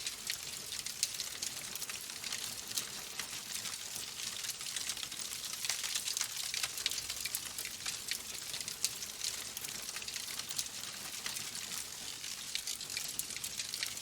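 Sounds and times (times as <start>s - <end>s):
log fire crackling and popping: 0.2s - 13.9s.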